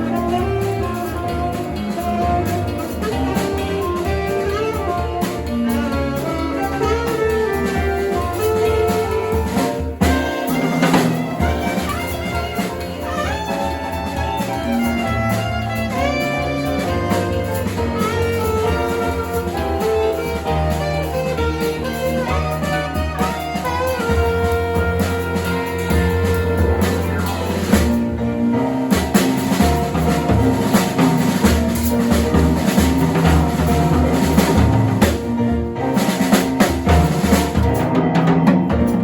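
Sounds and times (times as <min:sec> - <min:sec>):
alto saxophone melody: 0:00.0 - 0:37.9
drum kit: 0:00.0 - 0:39.0
piano and keyboard: 0:00.0 - 0:39.0.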